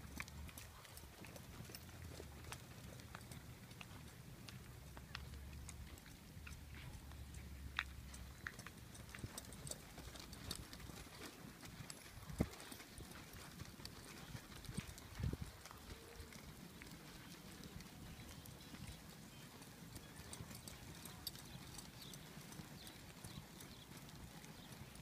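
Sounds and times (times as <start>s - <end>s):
horse hooves on dirt: 0.0s - 25.0s.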